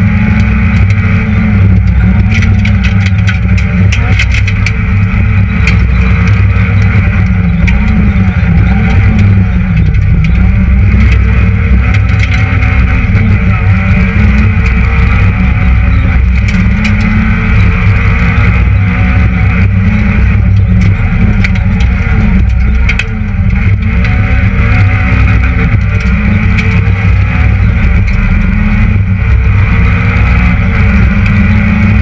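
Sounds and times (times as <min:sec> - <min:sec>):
car engine running hard: 0:00.0 - 0:32.0.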